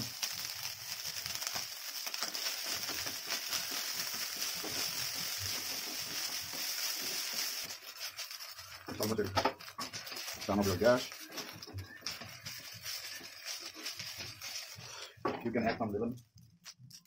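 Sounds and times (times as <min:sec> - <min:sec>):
rice sizzling in a pan: 0:00.0 - 0:15.9.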